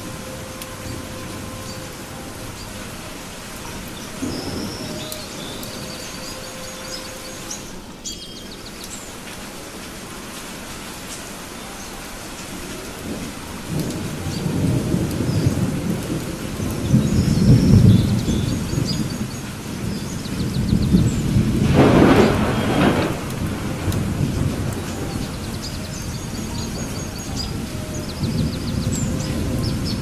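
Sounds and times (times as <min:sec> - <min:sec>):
thunder rumbling: 0:00.0 - 0:08.0, 0:12.5 - 0:30.0
steady rain: 0:00.0 - 0:30.0.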